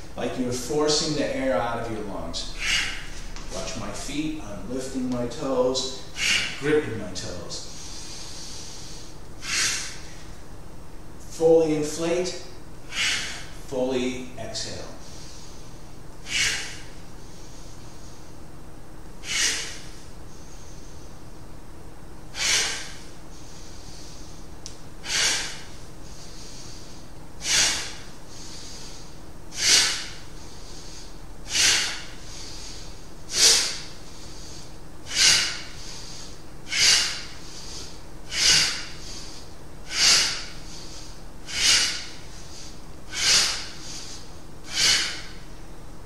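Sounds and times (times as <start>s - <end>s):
person breathing hard: 1.0s - 6.6s, 7.6s - 10.4s, 12.3s - 13.6s, 14.9s - 18.4s, 19.2s - 21.3s, 22.3s - 45.6s.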